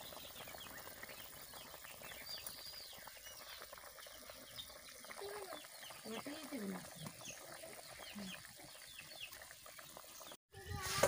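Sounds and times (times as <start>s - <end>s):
curry bubbling in a pot: 0.0s - 10.4s
birds chirping: 0.0s - 10.7s.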